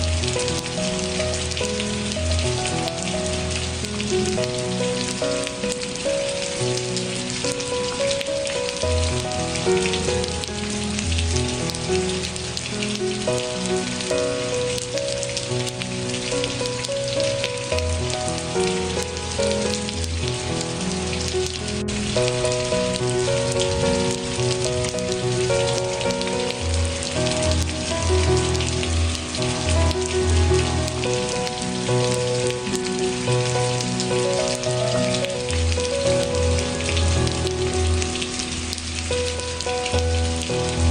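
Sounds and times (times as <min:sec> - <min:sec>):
rain pattering: 0:00.0 - 0:40.9
slow instrumental melody: 0:00.0 - 0:40.9.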